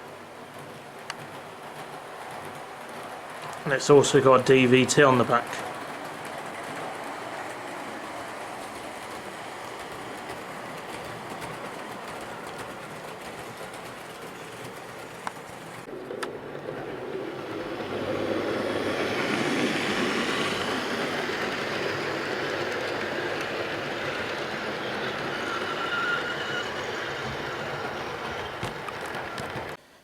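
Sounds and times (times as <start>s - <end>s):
model train whirring on rails: 0.0s - 30.0s.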